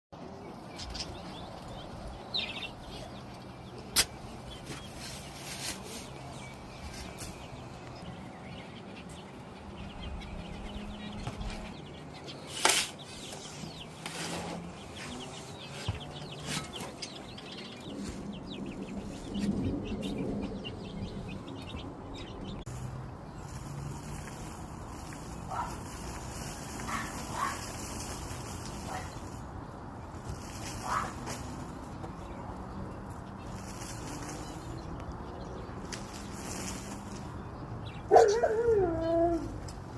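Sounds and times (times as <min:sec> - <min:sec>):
parakeets and finches chirping: 0:00.2 - 0:38.4.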